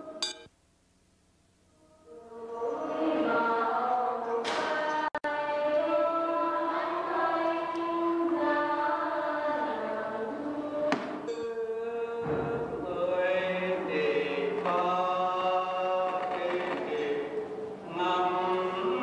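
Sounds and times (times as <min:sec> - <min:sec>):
choir singing long held notes: 0:00.0 - 0:00.4, 0:01.7 - 0:19.0.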